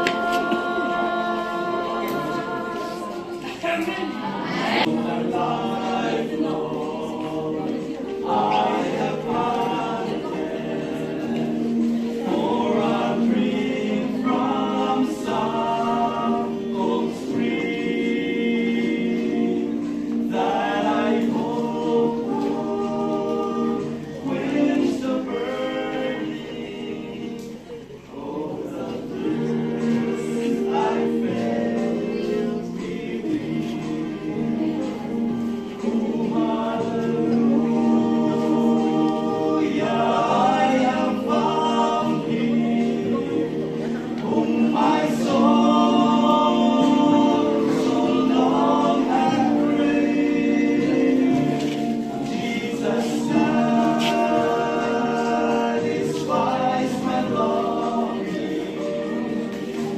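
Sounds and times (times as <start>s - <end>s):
group of voices singing: 0.0s - 59.9s.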